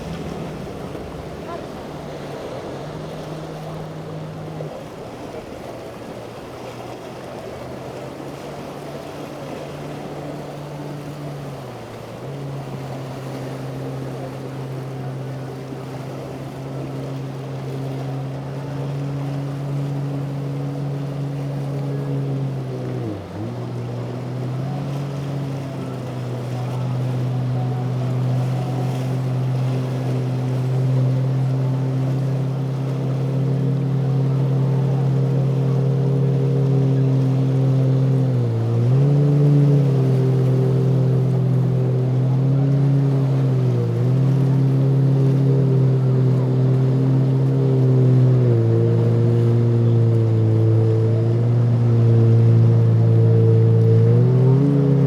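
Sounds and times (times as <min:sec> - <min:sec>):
motorboat engine running: 0:00.0 - 0:55.0
waves: 0:00.0 - 0:55.0
wind: 0:00.0 - 0:55.0.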